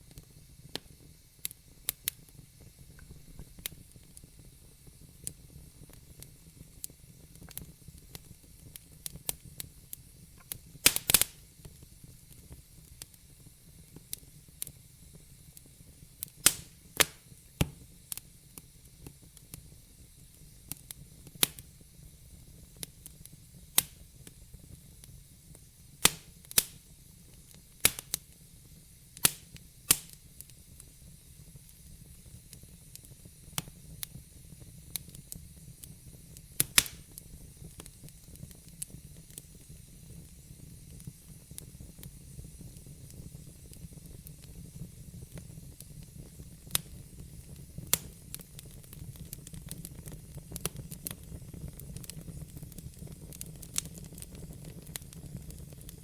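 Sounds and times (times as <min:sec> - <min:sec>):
faint hiss: 0:00.0 - 0:56.0
wood fire crackling: 0:00.0 - 0:56.0.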